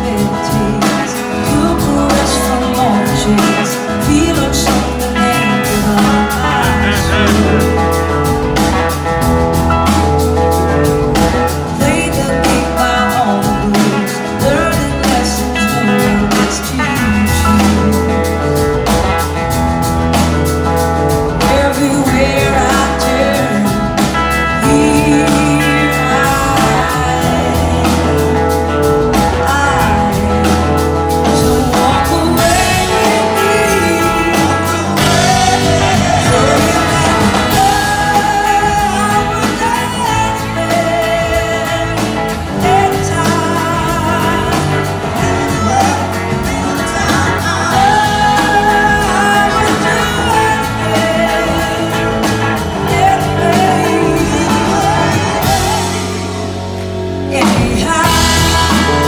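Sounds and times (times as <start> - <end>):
drums: 0.0 - 59.0
electric guitars: 0.0 - 59.0
woman singing lead: 0.0 - 59.0.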